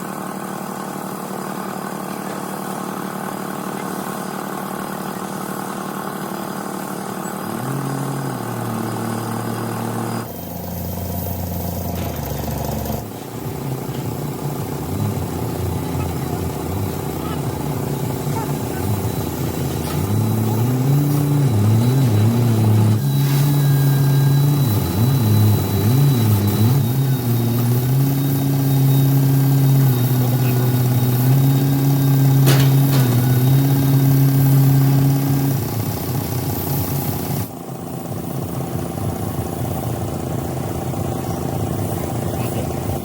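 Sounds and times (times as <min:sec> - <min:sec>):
car engine revving: 0:06.9 - 0:43.0.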